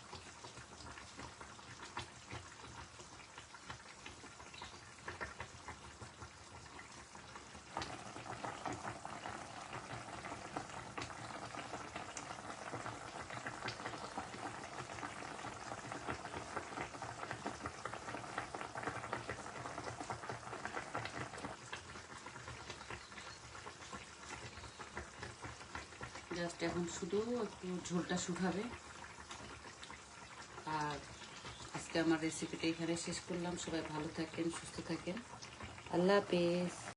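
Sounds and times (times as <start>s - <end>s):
curry sizzling and bubbling in a pan: 0.0s - 36.9s.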